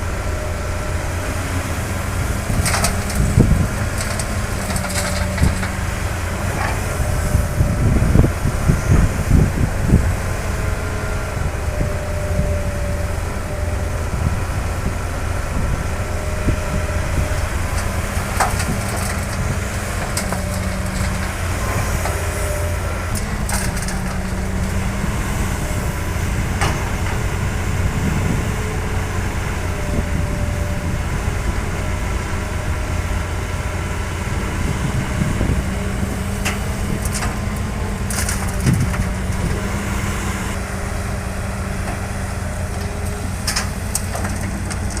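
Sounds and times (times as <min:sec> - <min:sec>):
diesel machinery rumbling: 0:00.0 - 0:45.0.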